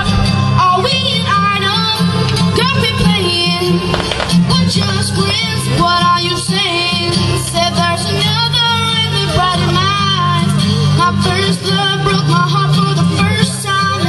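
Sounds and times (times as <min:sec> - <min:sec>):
acoustic guitar strumming: 0:00.0 - 0:14.0
boy singing into microphone: 0:00.0 - 0:14.0.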